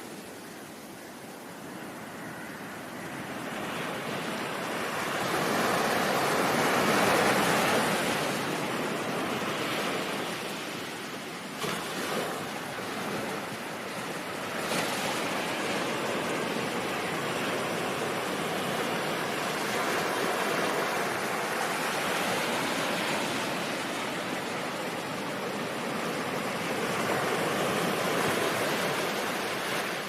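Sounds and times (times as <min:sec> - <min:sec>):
ocean waves on shore: 0:00.0 - 0:30.0.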